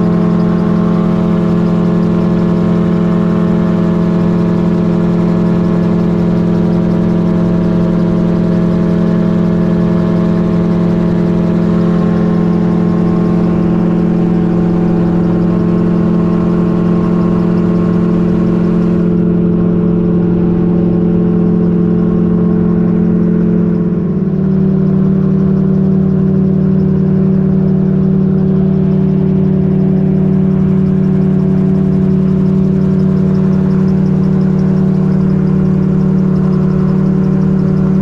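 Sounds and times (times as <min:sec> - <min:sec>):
gyrocopter engine and propeller: 0:00.0 - 0:38.0.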